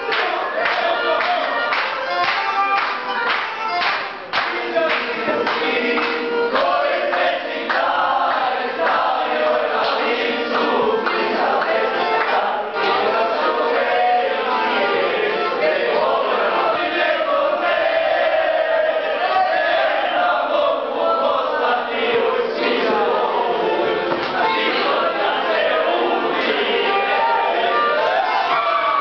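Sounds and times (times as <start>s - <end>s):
men singing in chorus: 4.5s - 28.2s.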